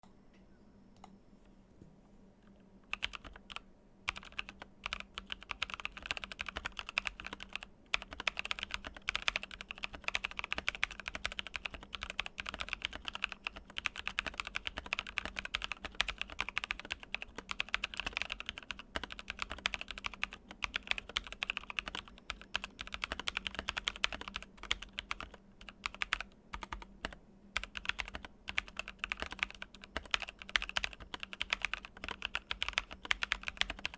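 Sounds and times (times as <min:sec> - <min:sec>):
typing on mechanical keyboard: 0:02.9 - 0:33.9.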